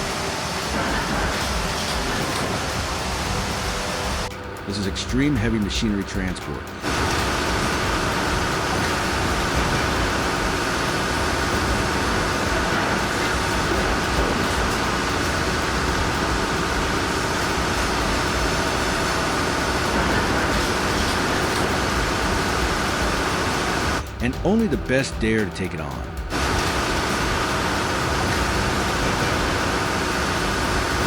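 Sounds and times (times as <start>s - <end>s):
heavy machinery engines and rolling: 0.0s - 24.7s, 26.1s - 31.0s.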